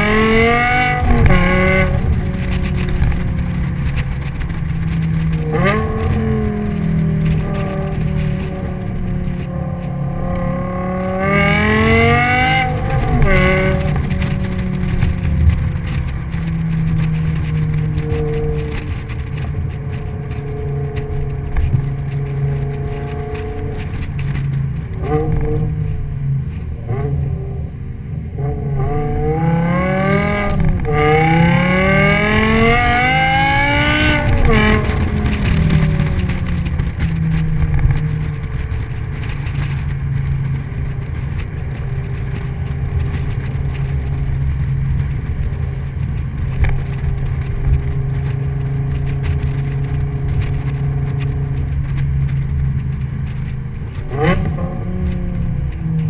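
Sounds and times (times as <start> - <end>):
car engine revving through gears: 0.0 - 56.0
low road and wind rumble: 0.0 - 56.0.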